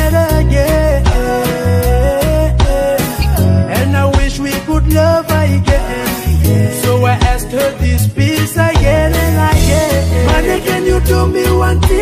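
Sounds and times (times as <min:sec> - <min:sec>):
deep bass line: 0:00.0 - 0:12.0
reggae song: 0:00.0 - 0:12.0
singing vocals: 0:00.0 - 0:12.0.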